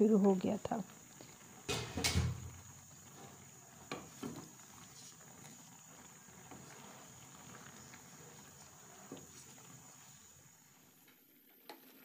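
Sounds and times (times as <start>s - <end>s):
spatula scraping a pan: 1.1s - 10.8s.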